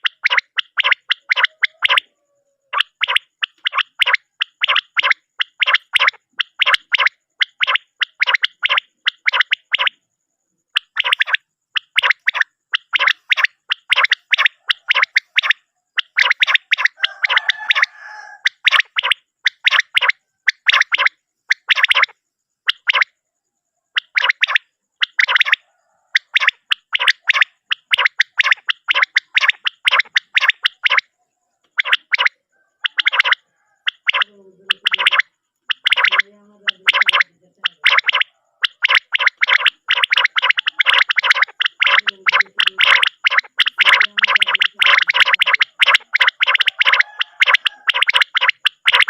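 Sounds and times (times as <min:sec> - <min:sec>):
quail calling: 0:00.0 - 0:10.0, 0:10.7 - 0:23.1, 0:23.9 - 0:49.0.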